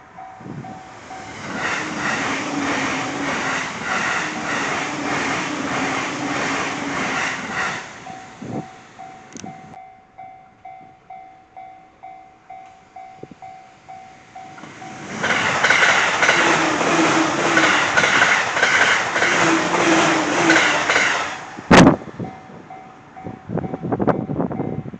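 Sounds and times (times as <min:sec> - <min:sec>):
train clattering past: 0:00.0 - 0:09.8, 0:12.5 - 0:24.9.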